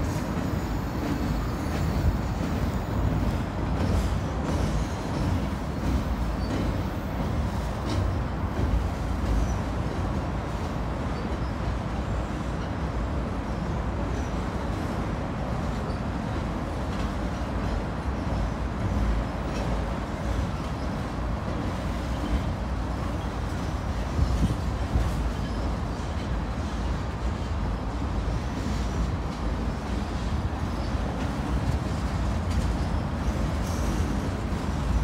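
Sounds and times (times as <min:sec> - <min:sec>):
freight train rumbling over bridge: 0:00.0 - 0:35.0.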